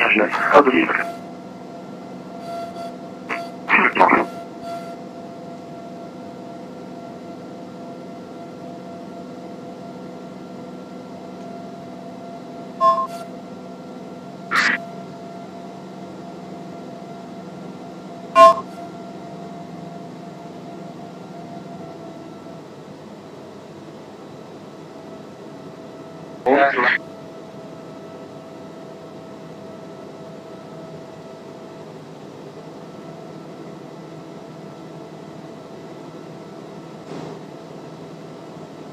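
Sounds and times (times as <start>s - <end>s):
airplane engine and propeller drone: 0.0s - 38.9s.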